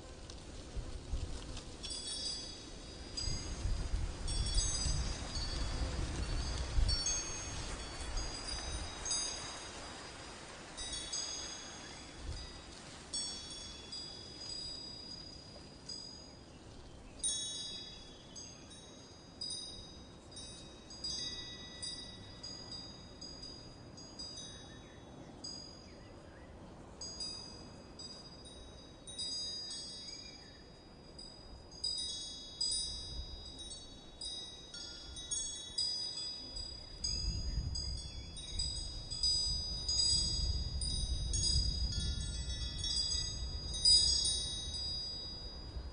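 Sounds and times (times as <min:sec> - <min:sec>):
wind chimes ringing: 0:01.8 - 0:45.9.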